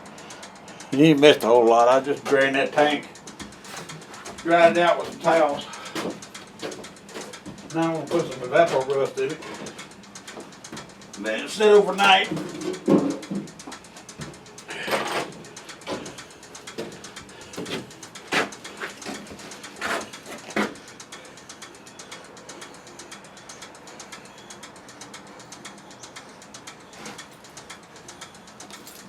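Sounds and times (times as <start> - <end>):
rapid fine clicks: 0.0 - 29.0.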